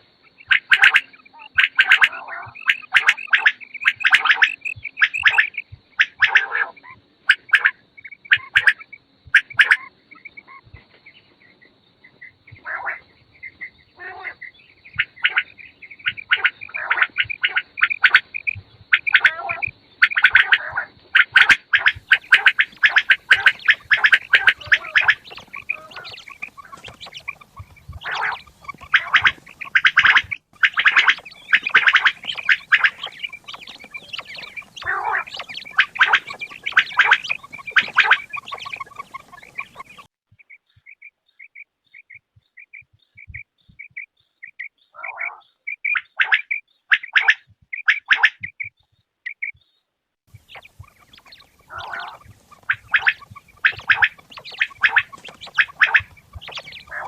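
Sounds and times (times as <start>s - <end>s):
quails calling: 0.0s - 57.0s.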